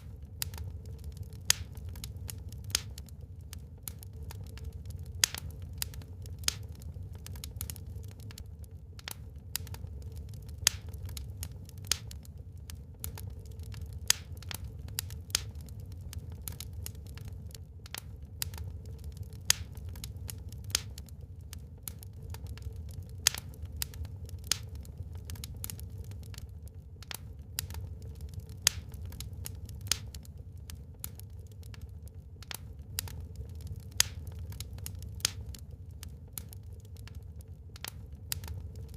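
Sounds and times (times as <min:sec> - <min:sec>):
low rushing of fire: 0:00.0 - 0:38.9
wood fire crackling: 0:00.0 - 0:38.9.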